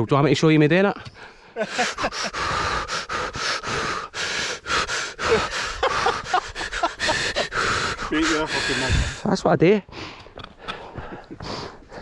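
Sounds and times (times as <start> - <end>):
man breathing heavily: 1.1 - 12.0.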